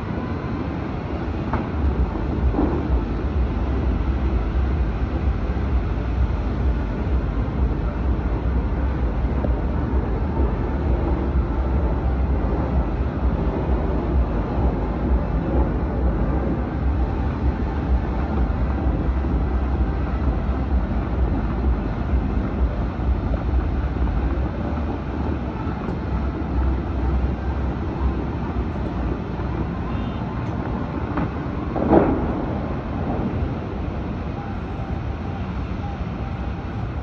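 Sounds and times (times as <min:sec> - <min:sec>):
distant city traffic roar: 0:00.0 - 0:37.0
wind buffeting microphone: 0:00.0 - 0:37.0.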